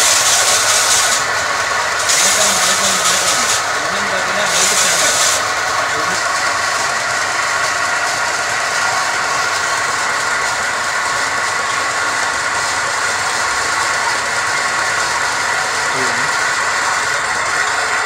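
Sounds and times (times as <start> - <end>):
belt sander running: 0.0 - 18.0.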